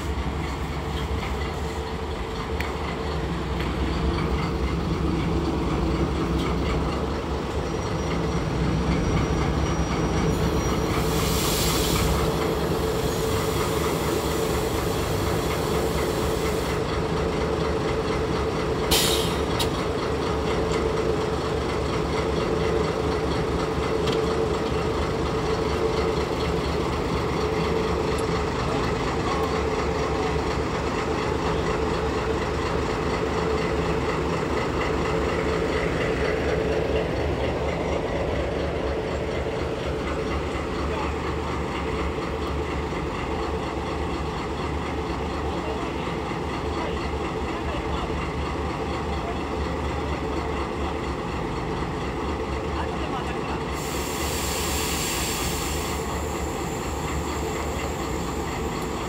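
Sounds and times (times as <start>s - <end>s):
diesel locomotive engine humming: 0.0s - 59.0s.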